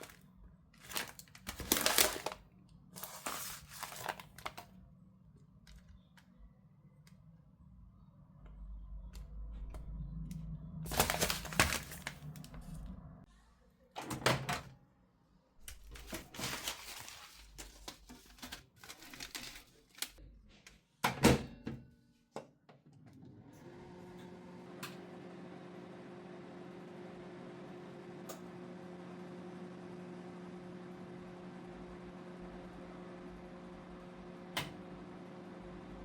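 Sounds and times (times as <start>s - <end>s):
low appliance hum: 0.0s - 21.8s, 22.9s - 36.0s.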